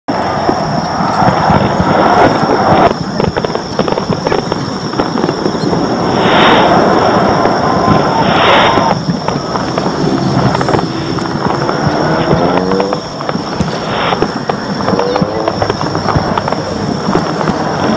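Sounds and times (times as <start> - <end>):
fireworks crackling and banging: 0.1 - 17.9.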